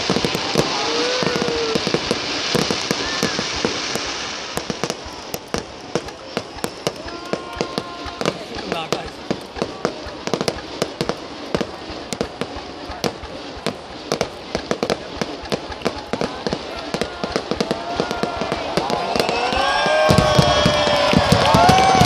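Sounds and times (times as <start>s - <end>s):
fireworks bangs and crackles: 0.0s - 22.0s
voices: 0.0s - 22.0s.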